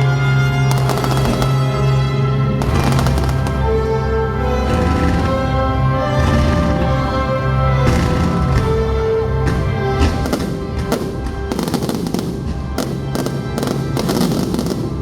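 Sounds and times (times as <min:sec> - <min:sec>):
fireworks bangs and crackles: 0:00.0 - 0:15.0
loud show music: 0:00.0 - 0:15.0.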